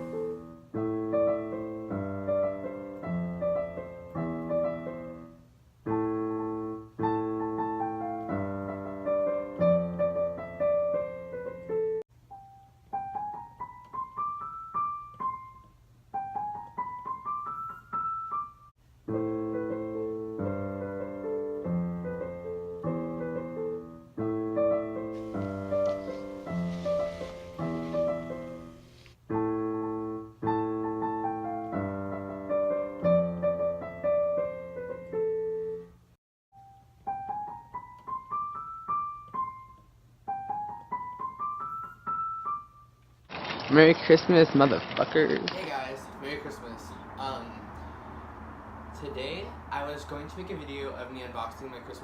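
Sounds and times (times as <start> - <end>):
solo piano music: 0.0 - 43.3.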